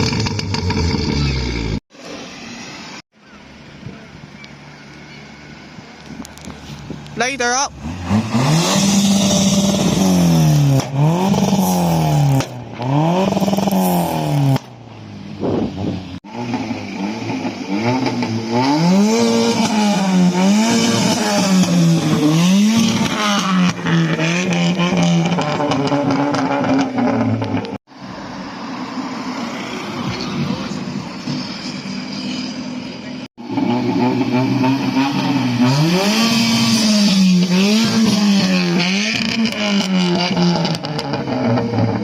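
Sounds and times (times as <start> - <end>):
car engine revving: 7.4 - 14.8, 15.4 - 42.0.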